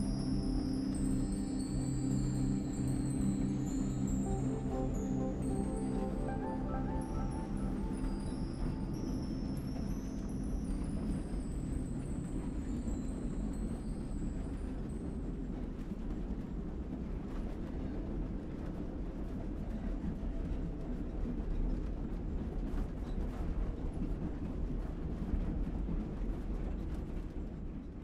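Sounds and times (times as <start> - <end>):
train rumbling on track: 0.0 - 27.9.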